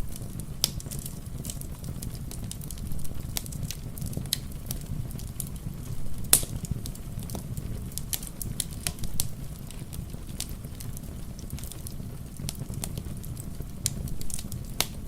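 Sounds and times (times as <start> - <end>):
soft rain patter: 0.0 - 15.0
wood fire crackling and popping: 0.0 - 15.0.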